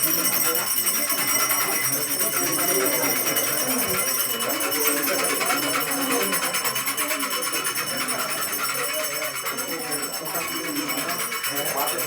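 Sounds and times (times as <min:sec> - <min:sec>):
crowd talking and singing: 0:00.0 - 0:12.0
small metal bells ringing: 0:00.0 - 0:12.0.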